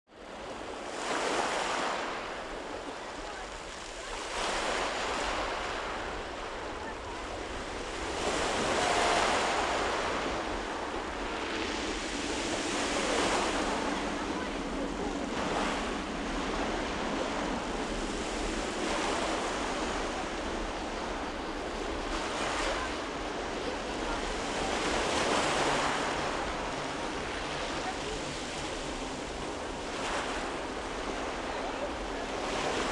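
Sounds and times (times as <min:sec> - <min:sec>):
faint train hum: 0:05.3 - 0:32.9.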